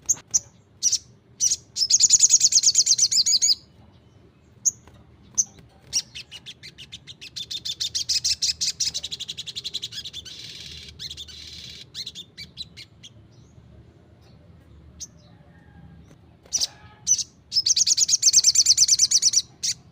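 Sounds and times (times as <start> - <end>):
bird singing high sharp chirps: 0.0 - 13.6, 16.4 - 19.9.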